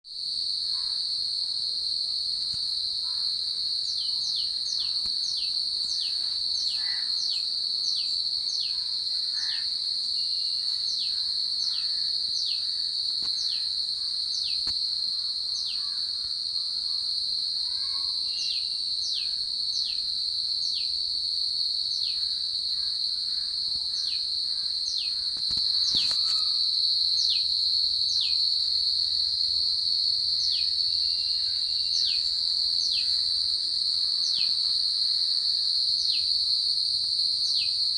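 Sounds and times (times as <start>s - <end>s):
insects trilling: 0.2s - 37.9s.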